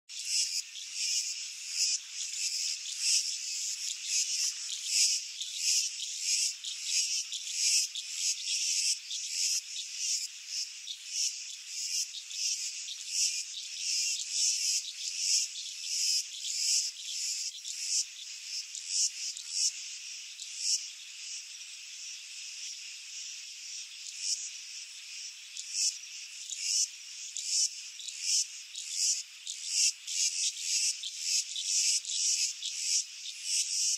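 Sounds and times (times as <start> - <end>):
insects buzzing shrilly: 0.1 - 33.9.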